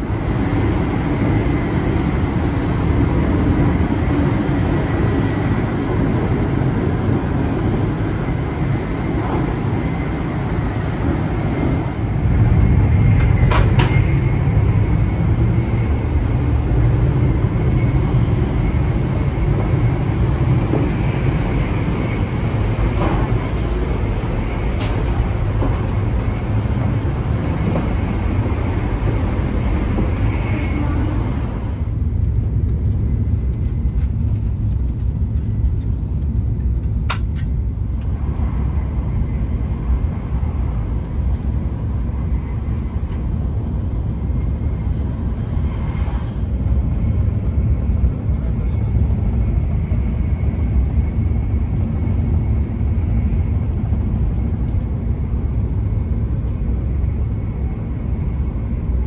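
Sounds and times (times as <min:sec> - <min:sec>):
train rumble from inside: 0:00.0 - 0:59.0.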